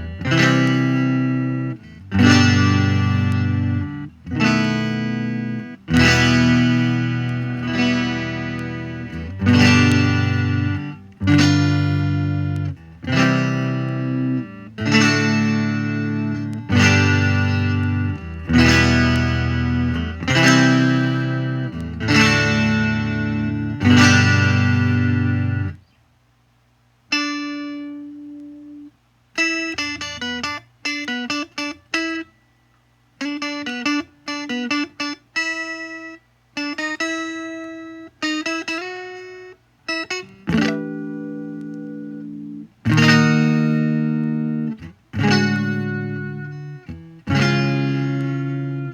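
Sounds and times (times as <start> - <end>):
electric guitar strumming chords: 0.0 - 25.8, 27.1 - 32.4, 33.2 - 48.9
picked guitar notes: 0.0 - 26.0, 27.1 - 48.9.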